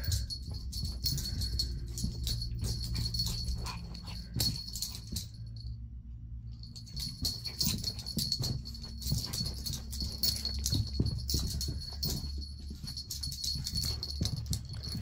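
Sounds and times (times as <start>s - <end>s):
metal collar tags jingling: 0.0s - 5.7s, 6.5s - 15.0s
steady low hum: 0.0s - 15.0s.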